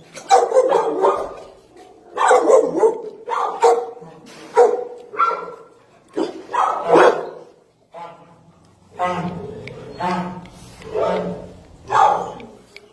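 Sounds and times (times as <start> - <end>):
dogs barking: 0.2 - 8.2, 8.9 - 12.6.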